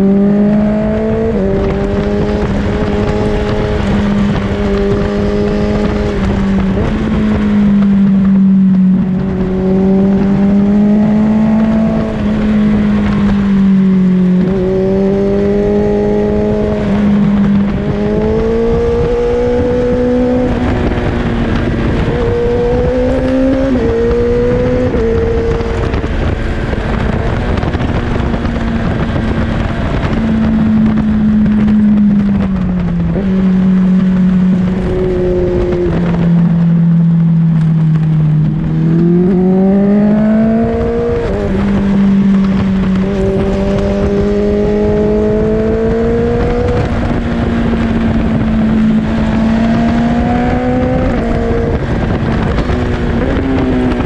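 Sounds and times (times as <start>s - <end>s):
motorcycle engine revving: 0.0s - 54.0s
wind on microphone: 0.0s - 54.0s.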